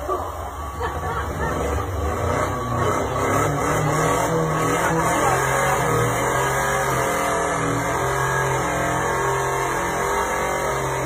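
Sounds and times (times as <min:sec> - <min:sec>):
car engine revving hard: 0:00.8 - 0:11.0.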